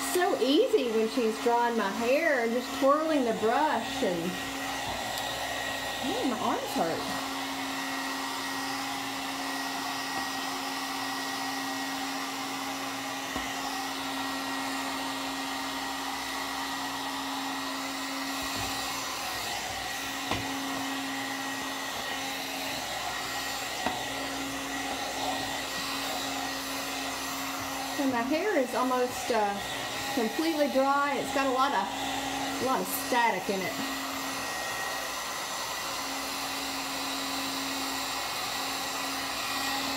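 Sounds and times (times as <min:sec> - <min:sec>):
hot-air brush motor humming: 0:00.0 - 0:39.9.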